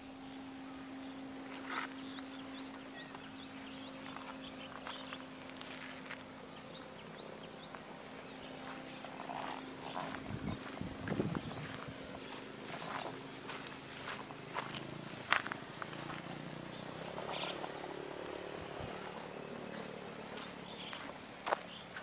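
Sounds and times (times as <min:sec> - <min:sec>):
bird chirping: 0:00.0 - 0:22.0
low electrical hum: 0:00.0 - 0:22.0.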